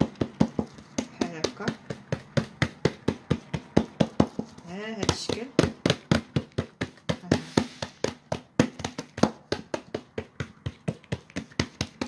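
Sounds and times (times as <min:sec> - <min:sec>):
hands slapping dough on a table: 0:00.0 - 0:12.0.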